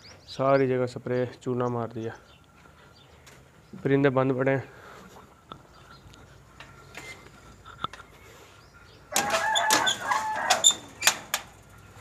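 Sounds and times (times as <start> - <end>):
chickens calling: 2.2 - 12.0.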